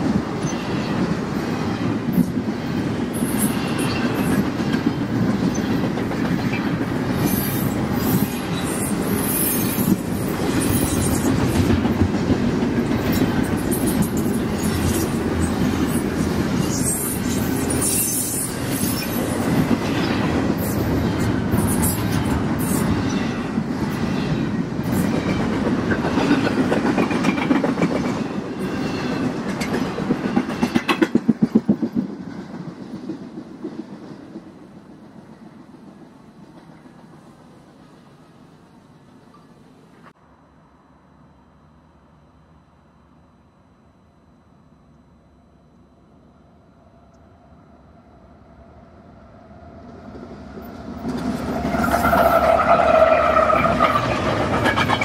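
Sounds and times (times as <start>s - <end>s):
train wheels rumbling on rail: 0.0s - 40.2s, 49.1s - 55.0s.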